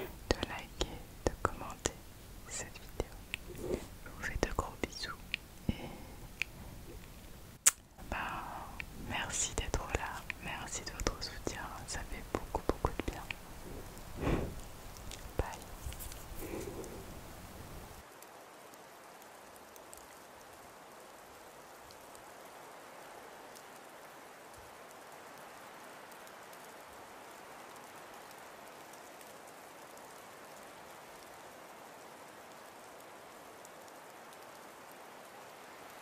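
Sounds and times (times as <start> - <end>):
storm ambience hiss: 0.0 - 36.0
faint ticks: 0.1 - 22.6, 24.5 - 36.0.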